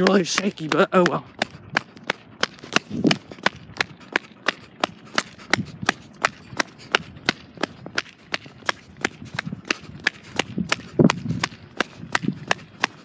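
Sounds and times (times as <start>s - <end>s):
running footsteps on bricks: 0.0s - 13.0s.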